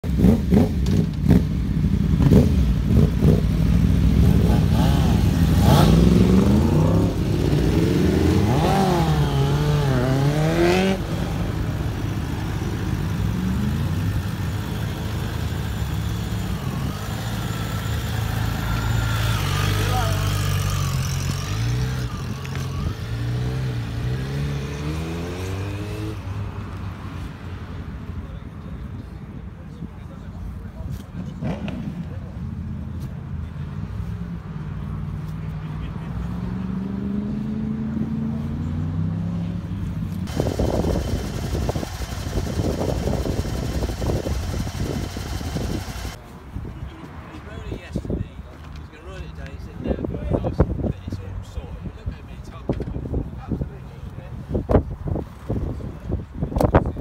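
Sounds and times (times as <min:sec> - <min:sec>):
motorcycle engines revving: 0:00.0 - 0:29.0, 0:30.2 - 0:57.0.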